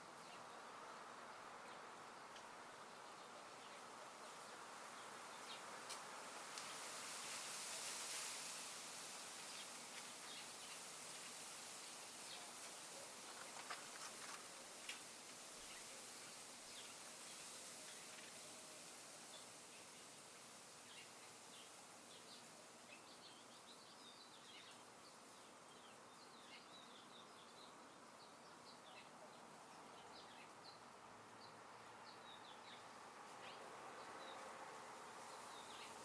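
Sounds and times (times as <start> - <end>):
wind hiss: 0.0 - 28.2, 30.2 - 36.0
small birds chirping: 0.0 - 36.0.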